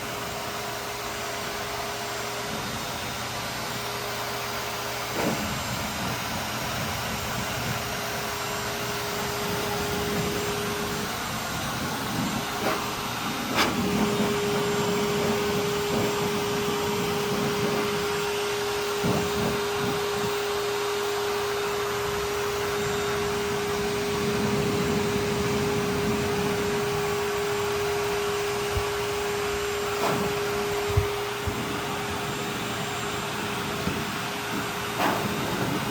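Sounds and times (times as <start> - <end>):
hair dryer blowing: 0.0 - 35.9.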